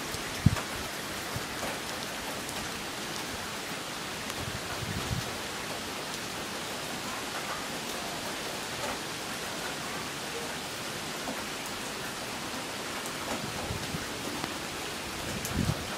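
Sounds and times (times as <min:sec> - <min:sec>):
rain on lawn and pavement: 0:00.0 - 0:15.9.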